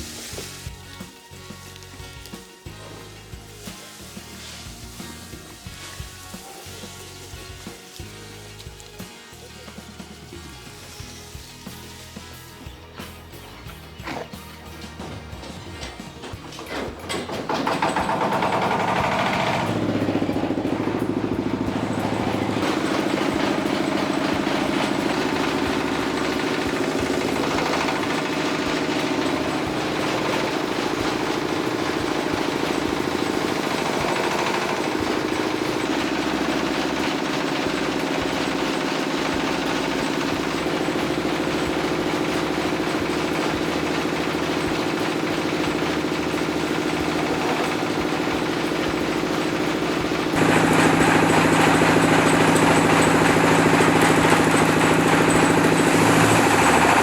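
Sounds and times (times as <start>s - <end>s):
machine engine rattling: 1.0s - 11.2s, 13.2s - 57.0s.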